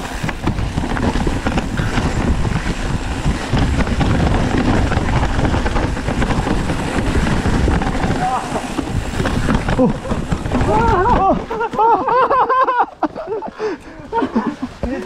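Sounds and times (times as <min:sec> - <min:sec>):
wind on microphone: 0:00.0 - 0:12.5
bike knocks and rattles: 0:00.0 - 0:15.0
tyres rumbling on dirt: 0:00.0 - 0:15.0.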